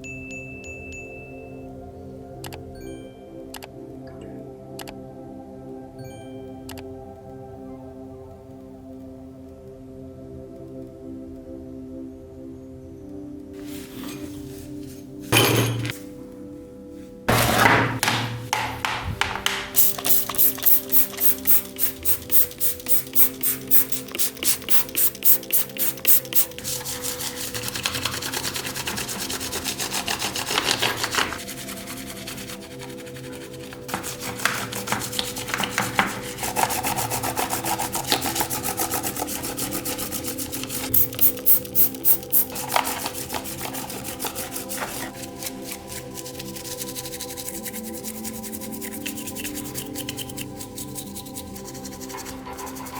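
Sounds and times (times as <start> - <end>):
background music: 0.0 - 52.9.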